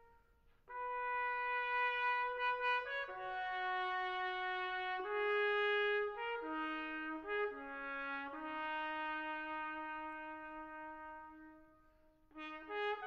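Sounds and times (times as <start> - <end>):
slow brass melody: 0.0 - 13.0.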